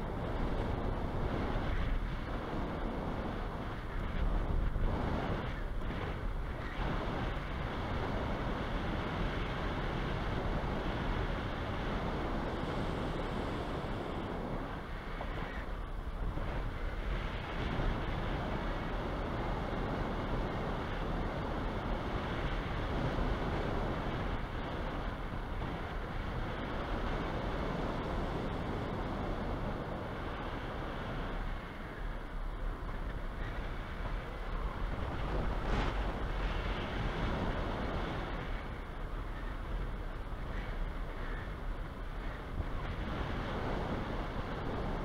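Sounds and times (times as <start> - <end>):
wind roar on microphone: 0.0 - 45.0.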